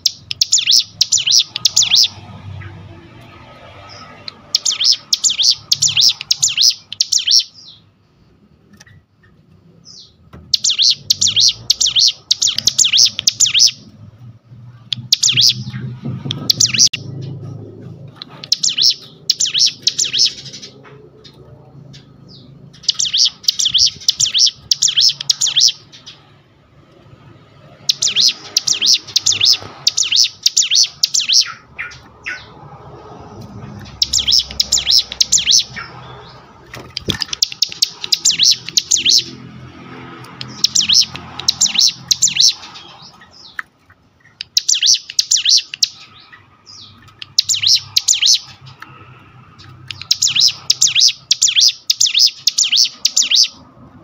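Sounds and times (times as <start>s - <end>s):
bird singing rapid stuttering notes: 0.0s - 7.9s, 8.8s - 54.0s.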